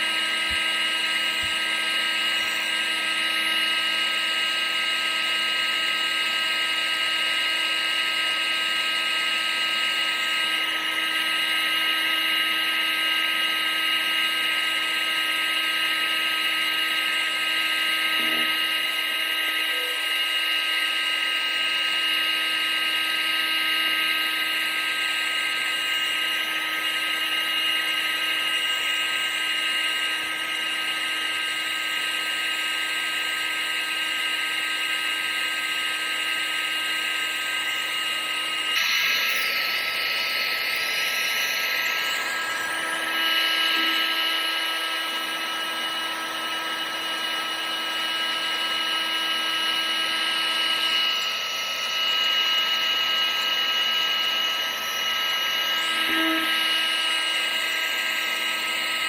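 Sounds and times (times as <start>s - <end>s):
vacuum cleaner motor running: 0.0s - 59.0s.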